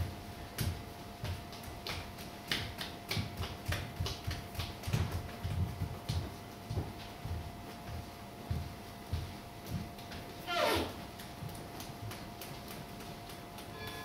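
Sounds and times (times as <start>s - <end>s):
footsteps on hard floor: 0.0s - 14.0s.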